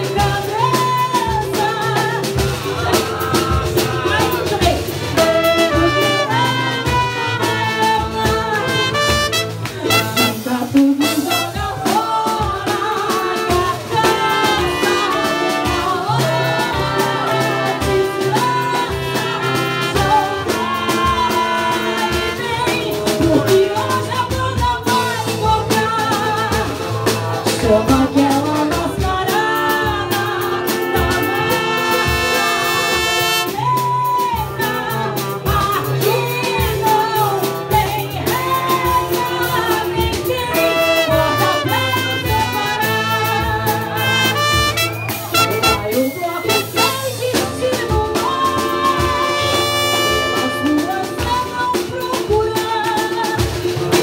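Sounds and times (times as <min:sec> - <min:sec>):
acoustic guitar: 0:00.0 - 0:54.0
cavaquinho: 0:00.0 - 0:54.0
drum kit beat: 0:00.0 - 0:54.0
saxophone: 0:00.0 - 0:54.0
trombone: 0:00.0 - 0:54.0
trumpet: 0:00.0 - 0:54.0.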